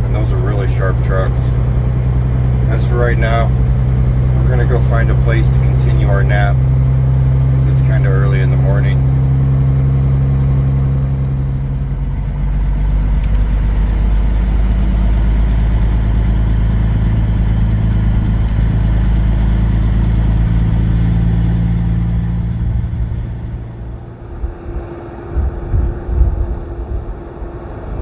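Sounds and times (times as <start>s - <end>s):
truck diesel engine moving off: 0.0s - 25.3s.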